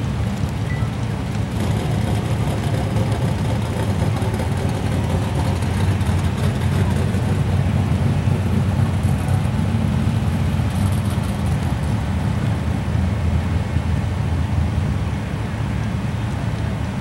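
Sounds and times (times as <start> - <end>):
drag car engine rumbling: 0.0 - 17.0.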